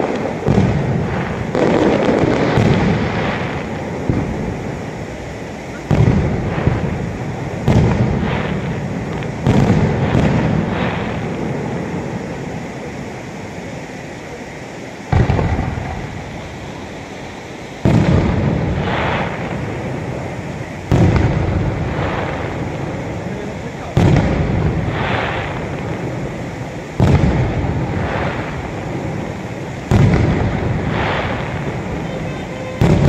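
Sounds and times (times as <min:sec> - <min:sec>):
firework booms with rumble: 0:00.0 - 0:13.9, 0:15.0 - 0:17.0, 0:17.8 - 0:33.0.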